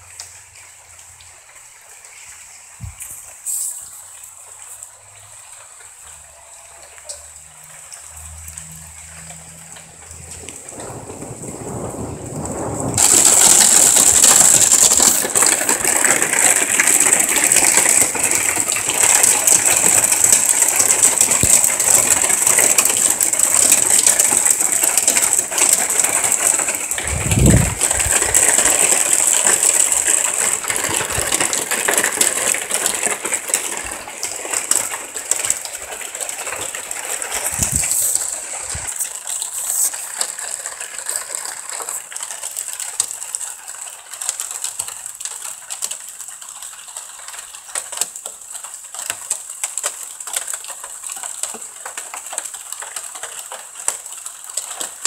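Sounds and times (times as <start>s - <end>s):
heavy rain downpour: 0.0s - 55.0s.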